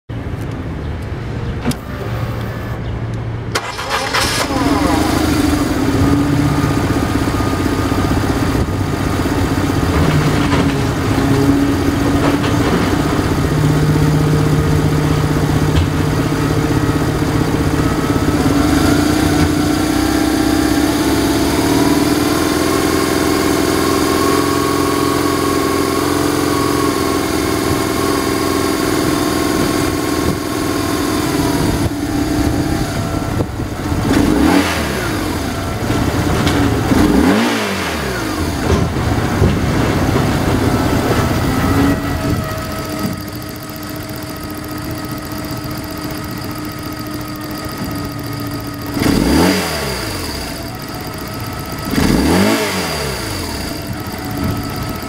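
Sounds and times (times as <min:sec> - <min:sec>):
motorcycle engine starting: 0:01.5 - 0:55.0
motorcycle engine revving: 0:03.6 - 0:55.0
motorcycle engine idling: 0:04.7 - 0:10.0, 0:10.7 - 0:55.0.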